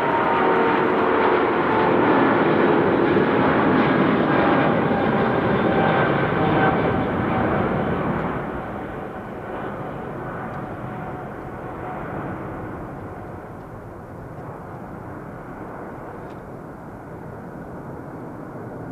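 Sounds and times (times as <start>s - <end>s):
faint steady engine whine: 0.0s - 18.9s
jet engines running: 0.0s - 18.9s.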